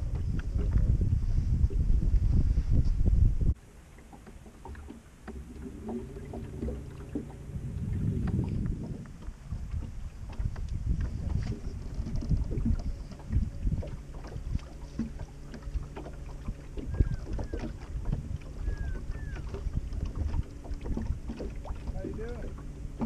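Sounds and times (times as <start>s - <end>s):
waves slapping against boat hull: 0.0s - 23.0s
wind buffeting microphone: 0.0s - 23.0s.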